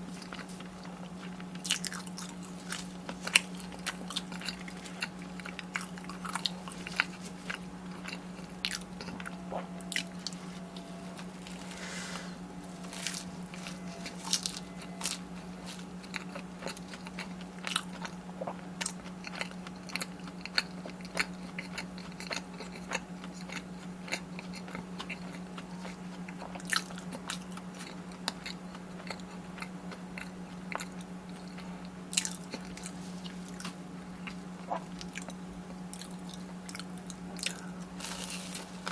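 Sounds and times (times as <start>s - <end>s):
crunchy food chewing: 0.0s - 38.9s
steady low hum: 0.0s - 38.9s.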